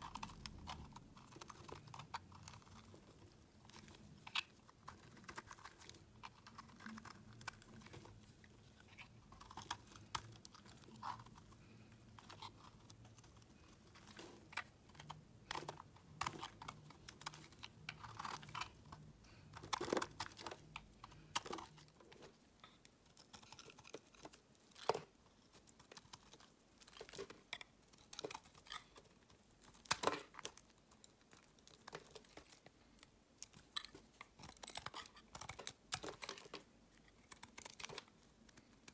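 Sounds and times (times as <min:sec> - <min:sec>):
knife scraping soap: 0:00.0 - 0:32.6, 0:33.4 - 0:38.9.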